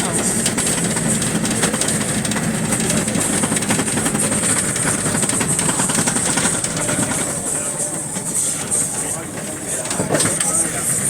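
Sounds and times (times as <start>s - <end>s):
rattling clatter: 0.0s - 11.0s
road vehicle running rumble: 0.0s - 11.0s.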